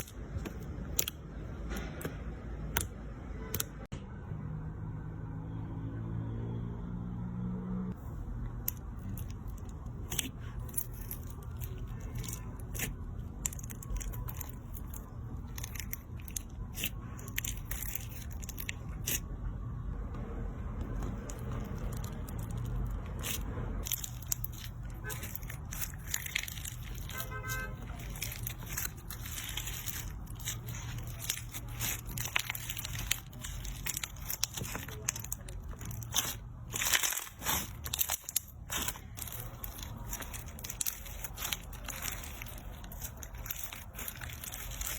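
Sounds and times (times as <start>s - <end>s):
slime crunching and crackling: 0.0s - 2.9s, 8.4s - 19.4s, 20.8s - 44.9s.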